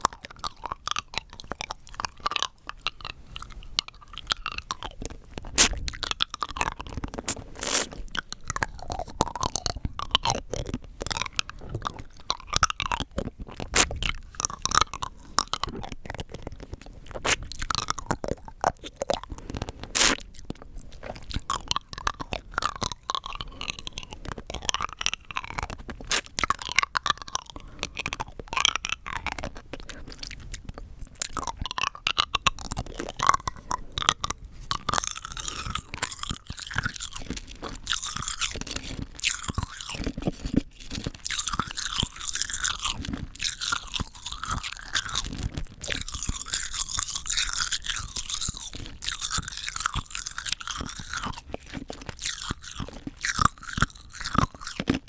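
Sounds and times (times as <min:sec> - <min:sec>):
hard candy crunching in mouth: 0:00.0 - 0:55.0.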